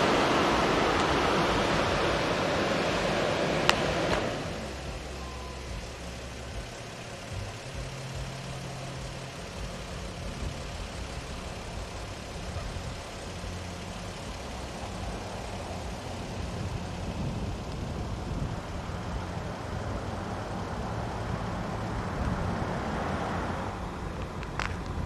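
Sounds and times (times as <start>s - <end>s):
car engine hum and road noise: 0.0s - 25.0s.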